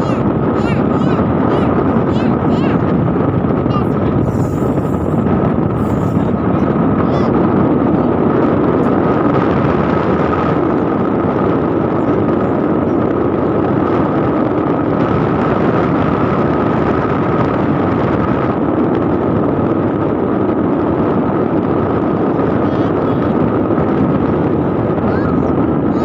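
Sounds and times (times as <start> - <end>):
steady whine: 0.0 - 26.0
vehicle engine and road noise: 0.0 - 26.0.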